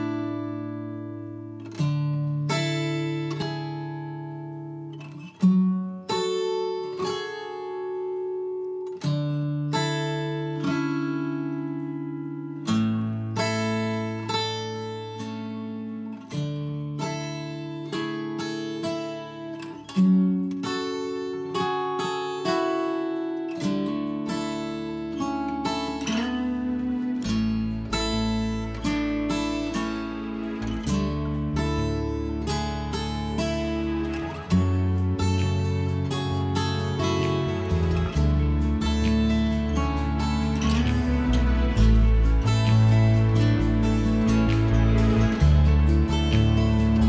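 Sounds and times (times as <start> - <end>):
acoustic guitar plucked chords: 0.0 - 47.0.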